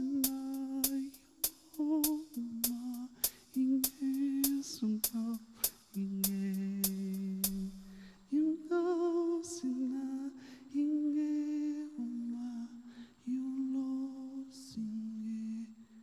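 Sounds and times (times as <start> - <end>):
man humming a slow melody: 0.0 - 16.0.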